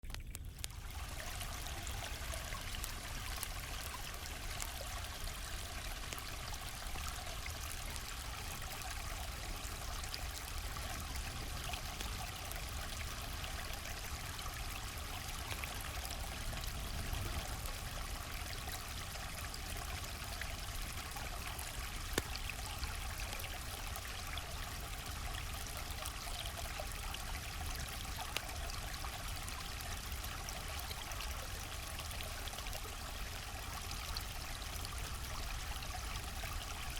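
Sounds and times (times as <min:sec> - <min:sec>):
river water flowing: 0:00.6 - 0:36.9.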